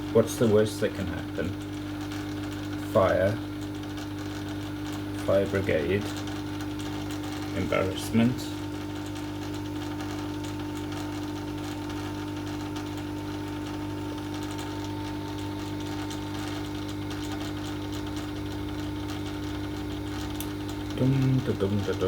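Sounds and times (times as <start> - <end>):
air pump buzzing hum: 0.0 - 22.0.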